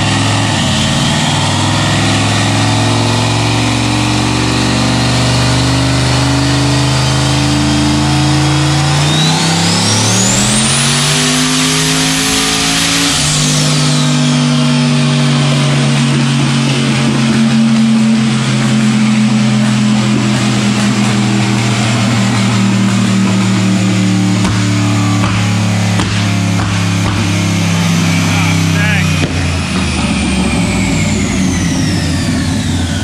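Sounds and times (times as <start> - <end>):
car engine on dyno: 0.0 - 33.0.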